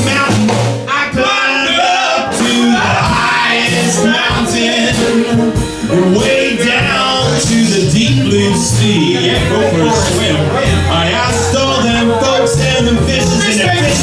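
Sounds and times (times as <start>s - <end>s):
double bass: 0.0s - 14.0s
drum kit: 0.0s - 14.0s
horns: 0.0s - 14.0s
person singing: 0.0s - 14.0s.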